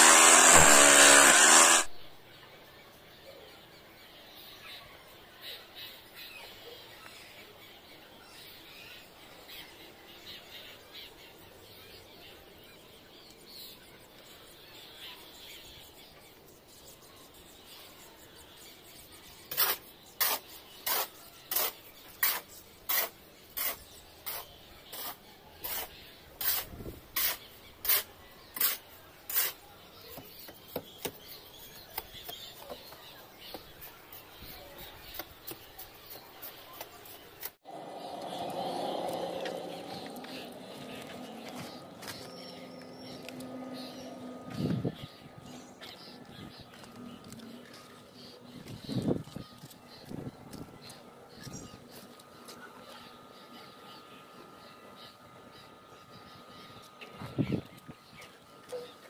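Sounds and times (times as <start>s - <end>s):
faint outdoor background: 0.0s - 59.0s.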